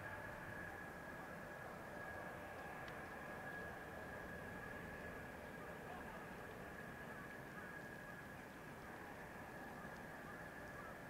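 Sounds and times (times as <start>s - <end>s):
high steady whine: 0.0s - 11.0s
steady wash of noise: 0.0s - 11.0s.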